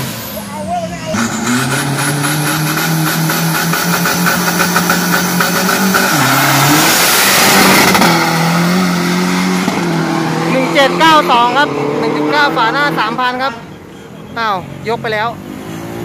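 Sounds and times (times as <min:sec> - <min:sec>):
diesel truck engine revving: 0:00.0 - 0:13.5, 0:14.3 - 0:16.0.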